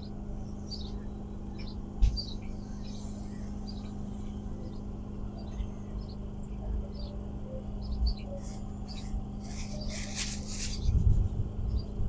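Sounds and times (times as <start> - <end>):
small birds chirping: 0.0 - 11.0, 11.6 - 12.0
steady low hum: 0.0 - 12.0.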